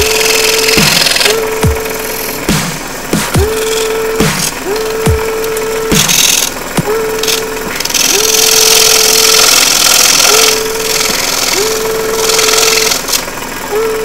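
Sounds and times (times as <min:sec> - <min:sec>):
scroll saw cutting wood: 0:00.0 - 0:14.0
steady mid-pitched tone: 0:00.0 - 0:14.0.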